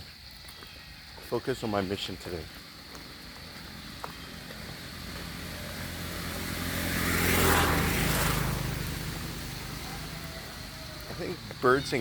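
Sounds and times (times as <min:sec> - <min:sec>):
vehicle approaching: 0:01.3 - 0:12.0.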